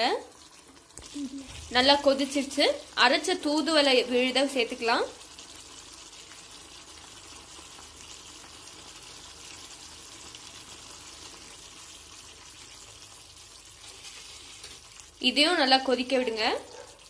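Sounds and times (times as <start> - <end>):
thick gravy boiling: 0.0 - 17.0.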